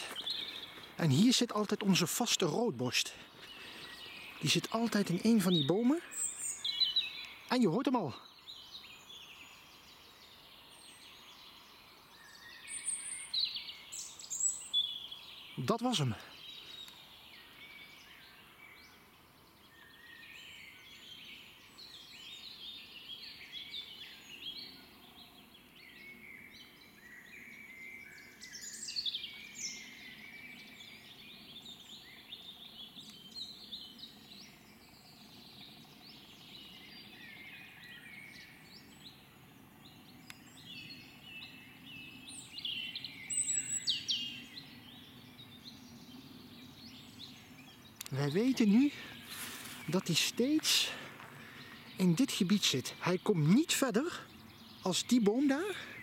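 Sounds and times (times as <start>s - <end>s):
robin singing: 0.0s - 56.0s.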